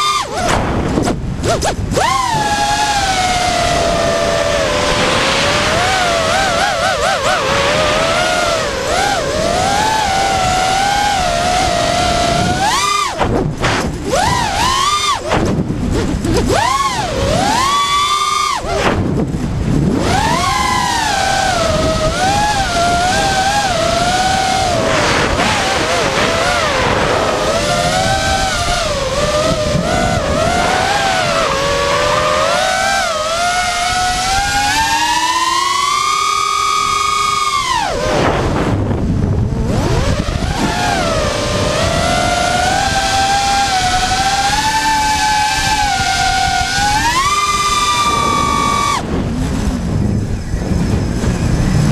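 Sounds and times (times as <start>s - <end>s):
drone motors whining: 0.0s - 51.9s
wind rumble on microphone: 0.0s - 51.9s.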